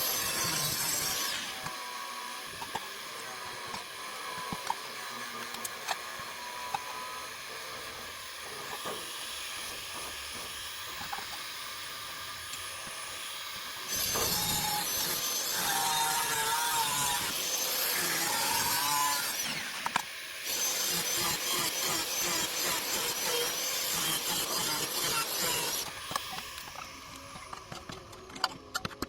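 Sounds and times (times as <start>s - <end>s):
power tool whining: 0.0s - 29.0s.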